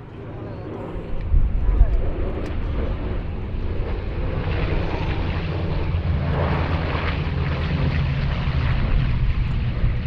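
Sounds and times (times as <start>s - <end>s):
propeller planes engine drone: 0.0s - 10.0s.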